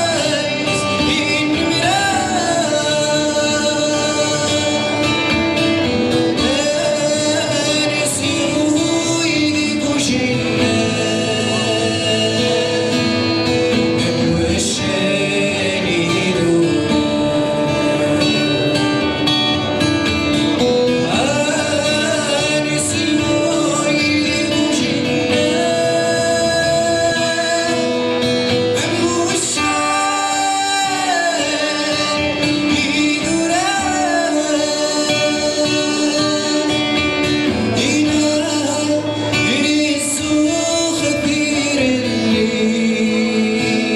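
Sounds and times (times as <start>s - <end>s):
acoustic guitar: 0.0s - 43.9s
man singing: 0.0s - 43.9s.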